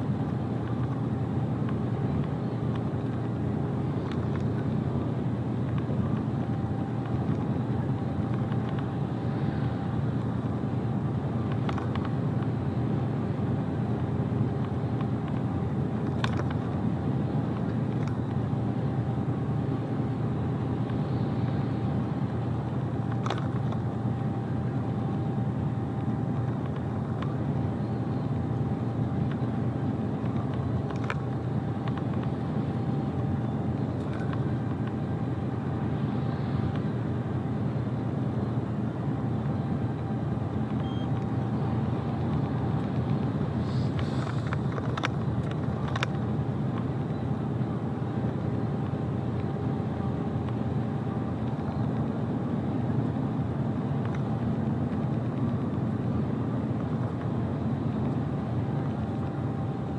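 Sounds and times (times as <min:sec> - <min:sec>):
faint steady tone: 0:00.0 - 0:52.2
truck engine and road noise: 0:00.0 - 0:59.9.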